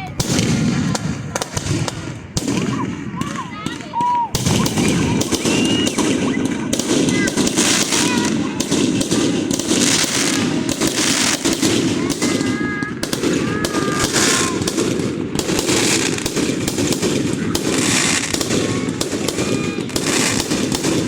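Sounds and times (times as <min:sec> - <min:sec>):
fireworks crackling bangs: 0:00.0 - 0:21.0
fireworks whistling: 0:00.0 - 0:21.0.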